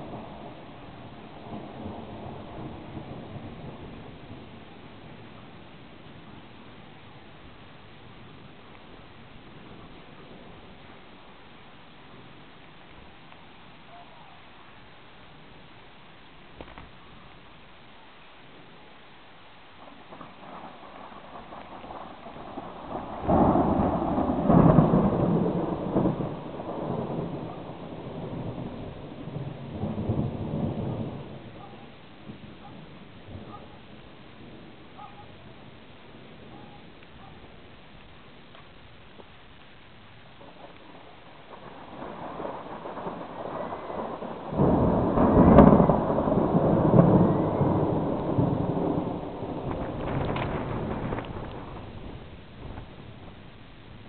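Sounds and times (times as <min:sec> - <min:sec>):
thunder rumbling: 0:00.0 - 0:13.2, 0:19.7 - 0:54.0
heavy rain: 0:00.0 - 0:54.0.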